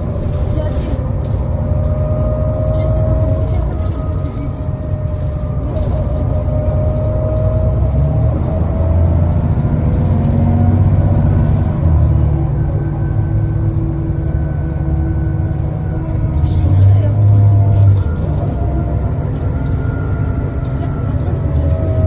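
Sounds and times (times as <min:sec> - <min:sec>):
diesel bus engine rumbling: 0:00.0 - 0:22.0
whining drivetrain: 0:00.0 - 0:22.0.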